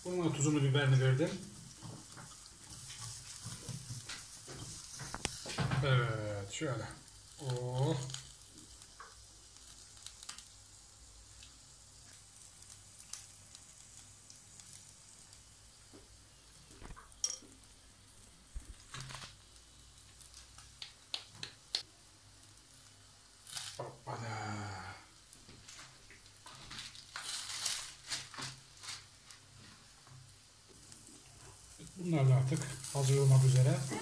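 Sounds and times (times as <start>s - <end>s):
meat sizzling on a grill: 0.0s - 34.0s.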